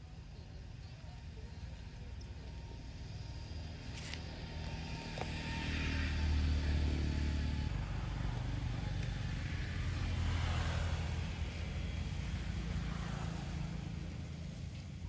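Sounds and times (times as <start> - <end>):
motor vehicle engine humming: 0.0 - 15.0.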